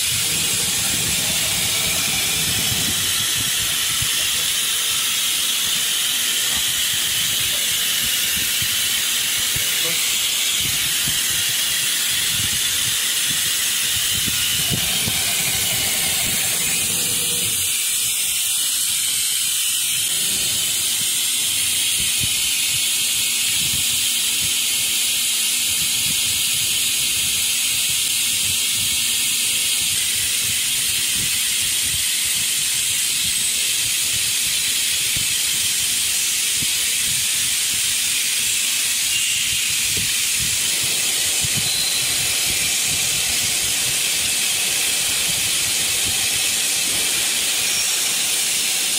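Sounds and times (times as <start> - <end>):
router machine hiss: 0.0 - 48.9.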